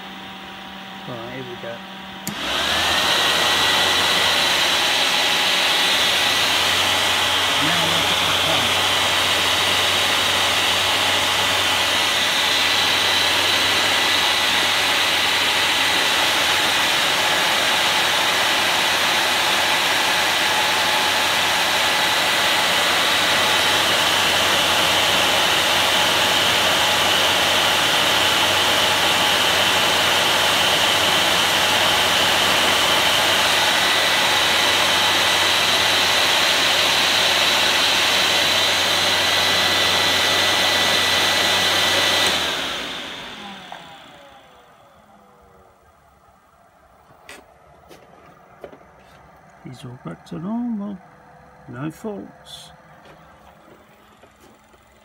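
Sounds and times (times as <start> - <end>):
heater blower roar: 0.0 - 55.0.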